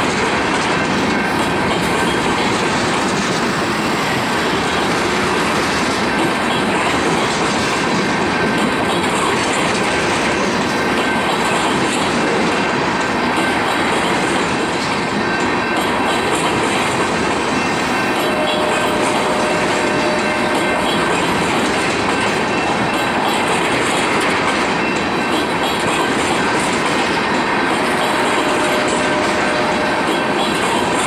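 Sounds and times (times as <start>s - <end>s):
freight train rolling past: 0.0s - 31.0s.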